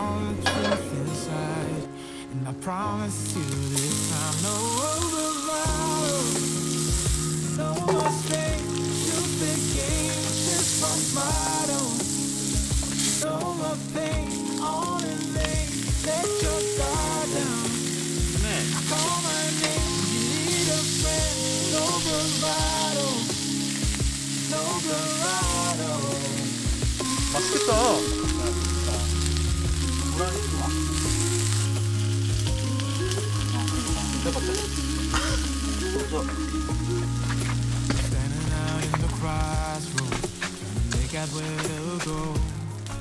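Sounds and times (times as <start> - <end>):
background music: 0.0 - 43.0
food sizzling in a pan: 3.2 - 43.0.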